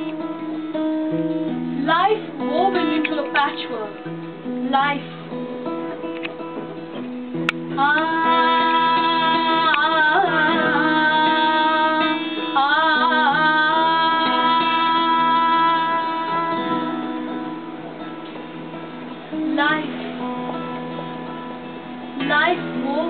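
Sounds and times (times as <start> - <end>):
acoustic guitar: 0.0 - 23.0.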